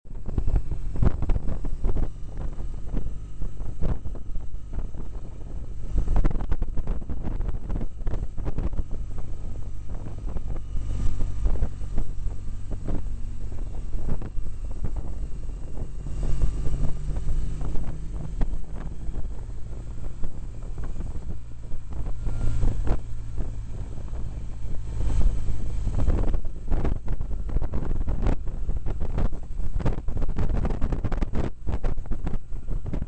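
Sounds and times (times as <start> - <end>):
motorcycle engine drone: 0.0 - 33.0
wind buffeting microphone: 0.1 - 33.0.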